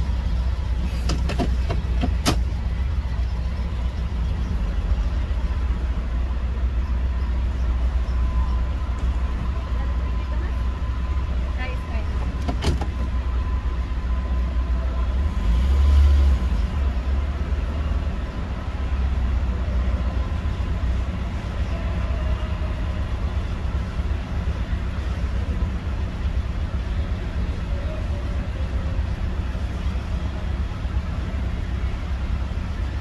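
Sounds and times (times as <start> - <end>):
van engine rumbling: 0.0 - 33.0.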